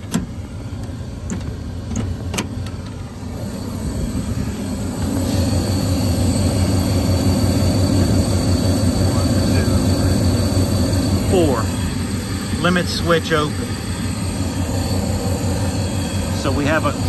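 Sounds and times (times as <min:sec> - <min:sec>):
inducer motor running: 0:00.0 - 0:17.0.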